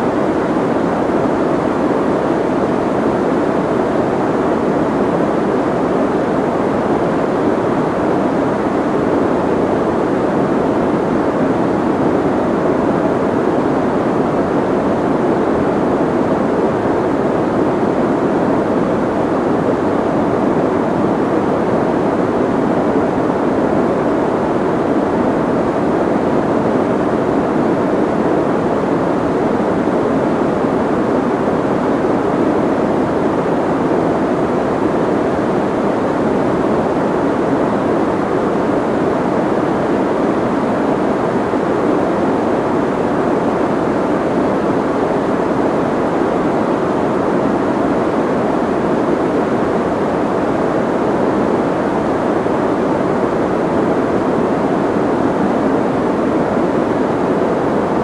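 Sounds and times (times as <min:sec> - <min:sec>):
soft white noise: 0:00.0 - 0:58.0.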